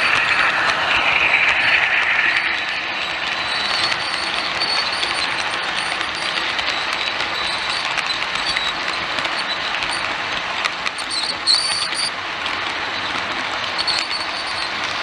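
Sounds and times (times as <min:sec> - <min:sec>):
high-pitched squeal: 0:00.0 - 0:10.2, 0:10.9 - 0:12.2, 0:13.7 - 0:15.0
model trains rumbling on track: 0:00.0 - 0:15.0
track clicks: 0:00.0 - 0:15.0.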